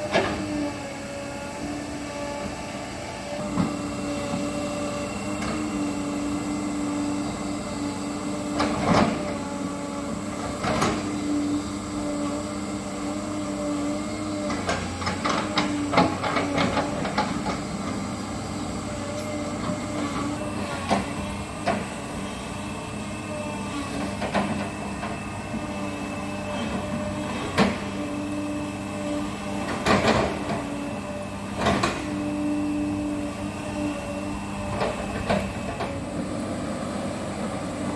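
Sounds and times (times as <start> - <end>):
excavator engine humming: 0.0 - 37.9.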